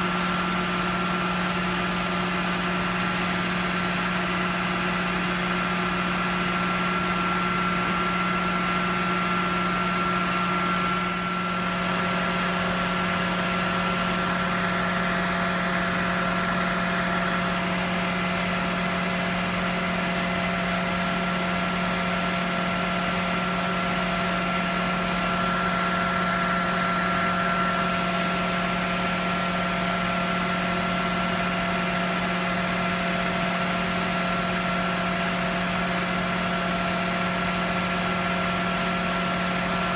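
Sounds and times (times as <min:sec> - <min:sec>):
thin steady whine: 0:00.0 - 0:39.9.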